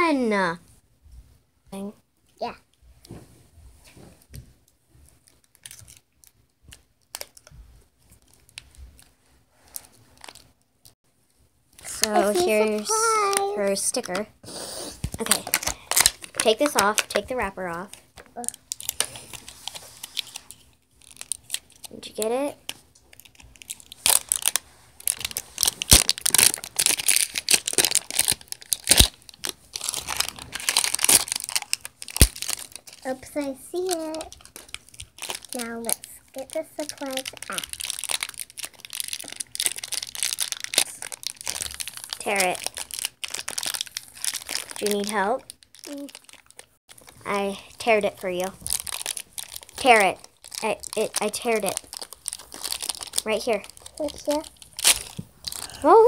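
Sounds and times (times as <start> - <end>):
plastic wrapping crinkling: 5.0 - 11.0, 11.7 - 14.2, 15.0 - 56.0.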